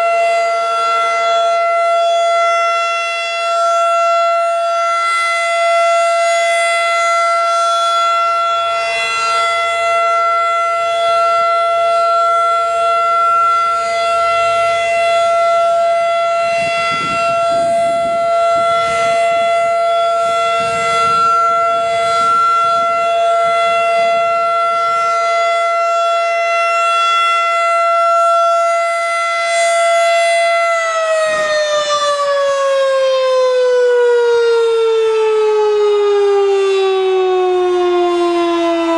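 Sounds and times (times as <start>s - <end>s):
tornado siren steady tone: 0.0s - 38.9s.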